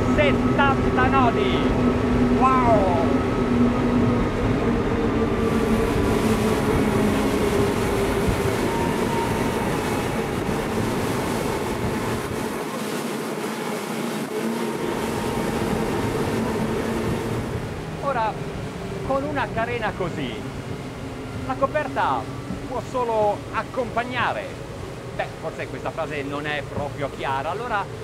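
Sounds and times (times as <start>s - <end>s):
powerboat engine hum: 0.0s - 28.0s
wind and water rushing: 0.0s - 28.0s.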